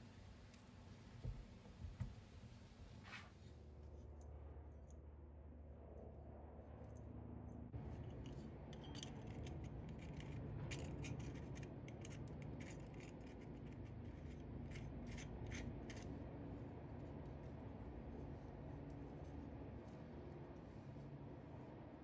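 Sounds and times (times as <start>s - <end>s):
low steady hum: 3.5s - 22.0s.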